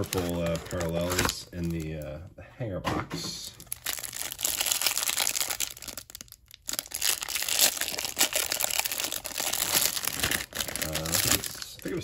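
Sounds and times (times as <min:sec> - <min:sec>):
plastic wrapper crinkling and tearing: 0:00.0 - 0:02.1, 0:03.5 - 0:12.0.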